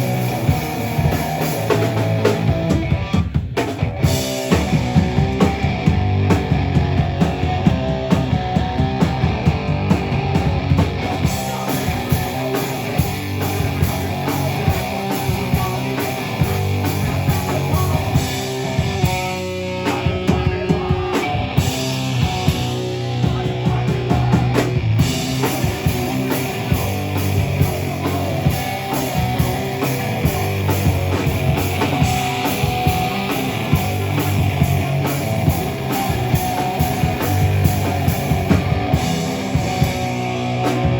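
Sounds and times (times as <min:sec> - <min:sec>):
bass guitar: 0:00.0 - 0:40.9
distorted electric guitars: 0:00.0 - 0:40.9
drum kit: 0:00.0 - 0:40.9.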